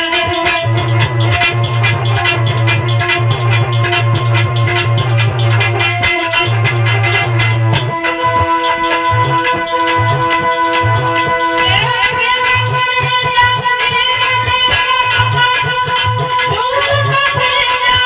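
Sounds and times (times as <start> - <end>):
shaker rattles: 0.0 - 18.0
steady percussion beat: 0.0 - 18.0
sustained instrumental melody: 0.0 - 18.0.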